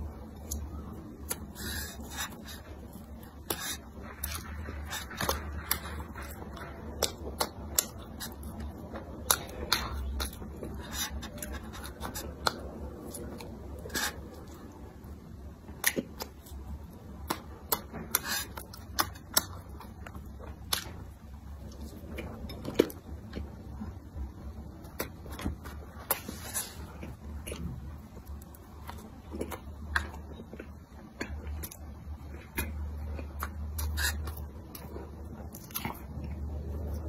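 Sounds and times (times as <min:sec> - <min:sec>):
chewing crunchy bread: 0:00.0 - 0:37.0.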